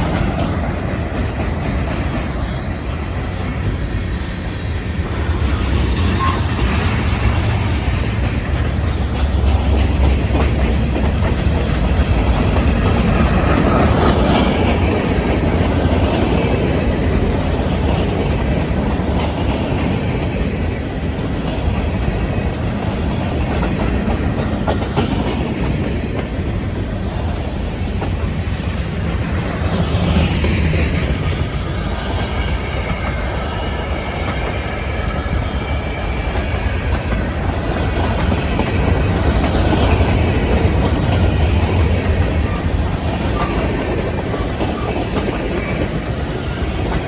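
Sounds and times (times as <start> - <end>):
freight train rumbling: 0.0 - 47.0
wheels clacking over rail joints: 0.0 - 47.0.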